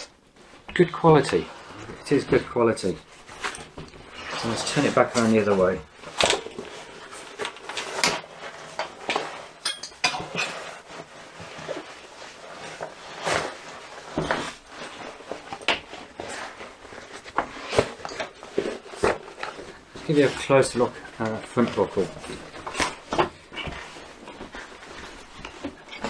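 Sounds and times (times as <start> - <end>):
fabric bag rustling: 0.3 - 9.7, 10.3 - 26.0.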